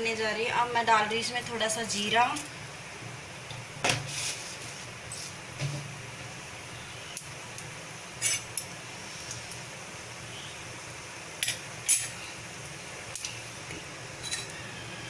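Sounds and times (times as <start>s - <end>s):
seeds crackling in hot oil: 0.0s - 15.0s.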